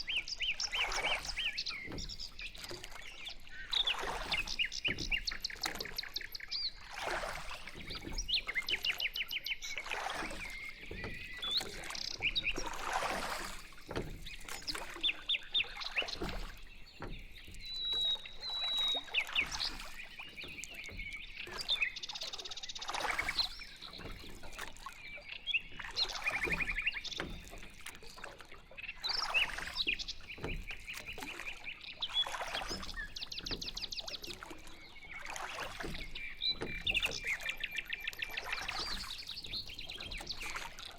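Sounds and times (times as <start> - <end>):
paddles splashing water: 0.0 - 40.9
small birds chirping and trilling: 0.0 - 40.9.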